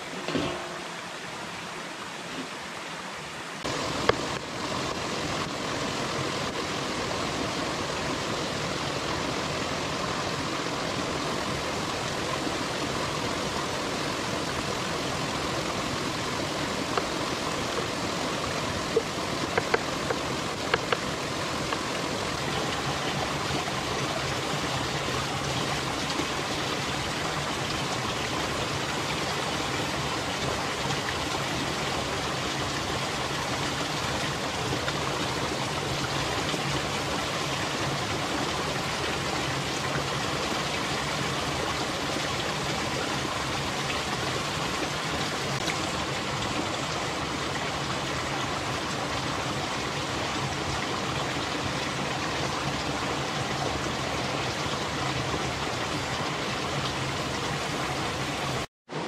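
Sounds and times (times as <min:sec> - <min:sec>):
small waterfall trickling: 0:00.0 - 0:59.0.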